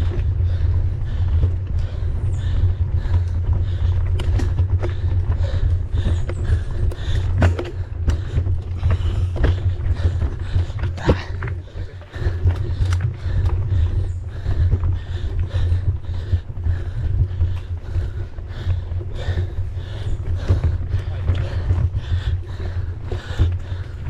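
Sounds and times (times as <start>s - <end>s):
bike rattling clicks and knocks: 0.0s - 24.0s
wind rumble on microphone: 0.0s - 24.0s.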